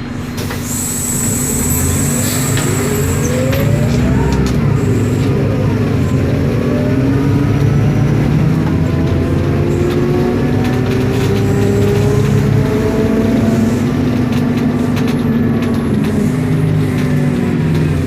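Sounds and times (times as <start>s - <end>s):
bus diesel engine running: 0.0s - 18.0s
gearbox whining: 0.6s - 18.0s.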